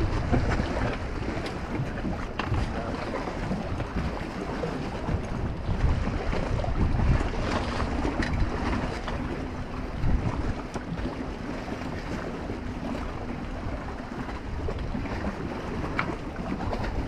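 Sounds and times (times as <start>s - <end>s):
water slapping boat hull: 0.0s - 17.0s
wind buffeting microphone: 0.0s - 17.0s.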